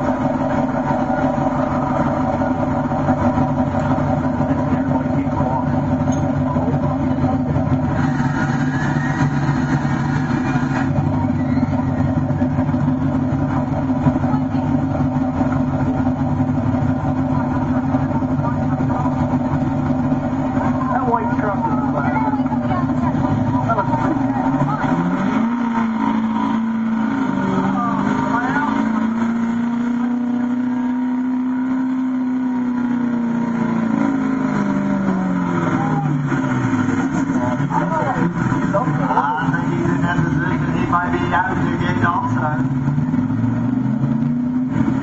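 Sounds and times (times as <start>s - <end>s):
truck engine running hard: 0.0s - 45.0s.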